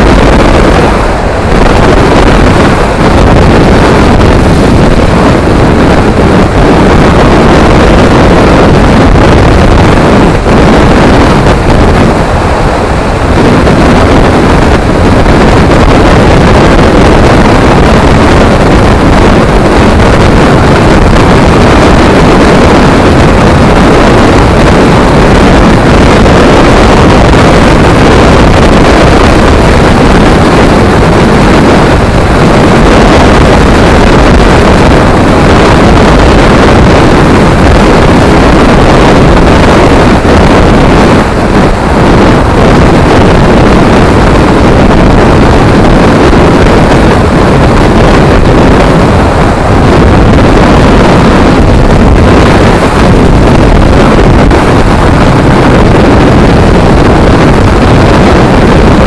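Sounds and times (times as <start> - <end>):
wind rushing on microphone: 0.0 - 59.0.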